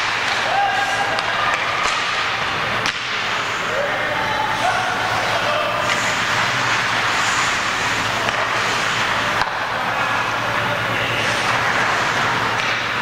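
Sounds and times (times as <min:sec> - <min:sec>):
ice rink din: 0:00.0 - 0:13.0.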